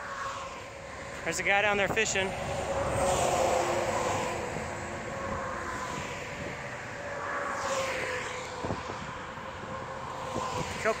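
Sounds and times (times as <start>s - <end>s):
highway traffic hum: 0.0s - 11.0s.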